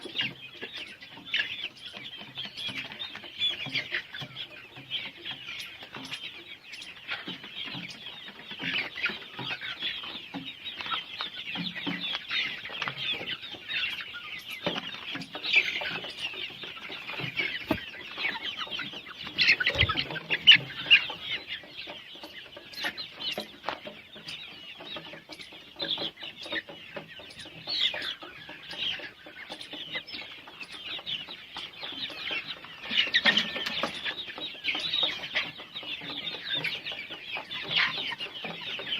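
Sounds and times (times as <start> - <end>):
chicks calling: 0.0 - 38.9.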